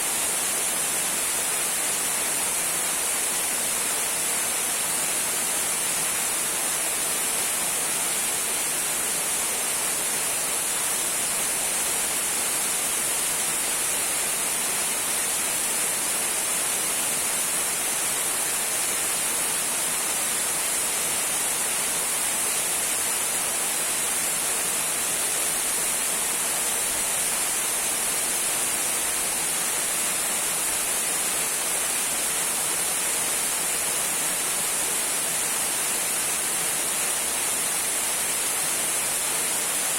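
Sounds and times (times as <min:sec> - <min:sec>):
small waterfall trickling: 0:00.0 - 0:39.9.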